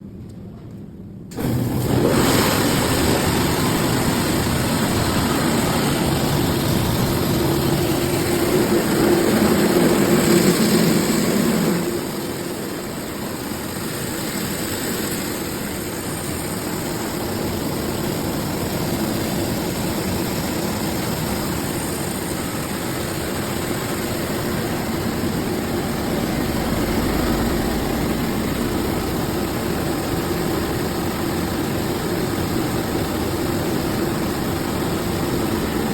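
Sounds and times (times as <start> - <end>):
milling machine droning: 1.4 - 35.9.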